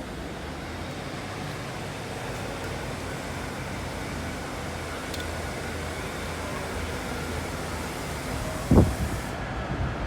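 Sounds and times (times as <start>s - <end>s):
train engine drone: 0.0s - 10.0s.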